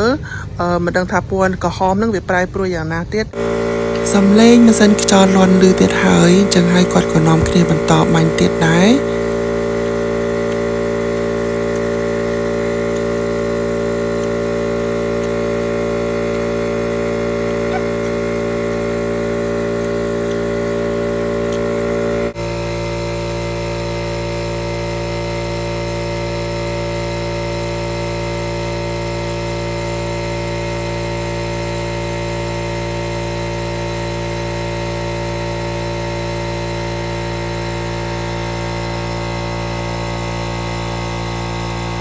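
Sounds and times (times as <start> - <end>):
air compressor humming: 3.2 - 42.0.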